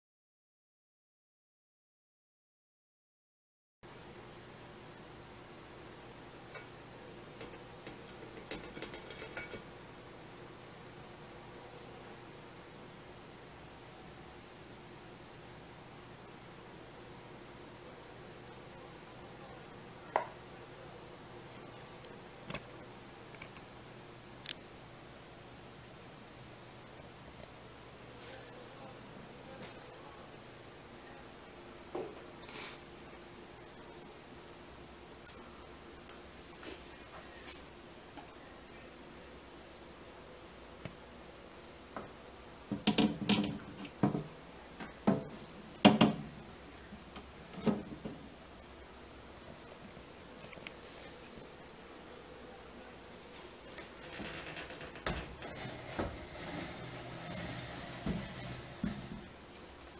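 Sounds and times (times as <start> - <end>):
steady low hiss: 3.9 - 59.9.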